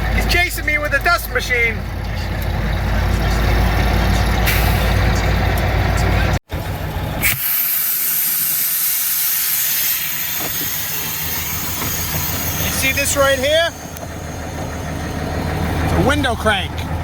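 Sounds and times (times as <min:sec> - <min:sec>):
diesel truck engine rumbling: 0:00.0 - 0:17.0
faint engine hum: 0:00.0 - 0:17.0.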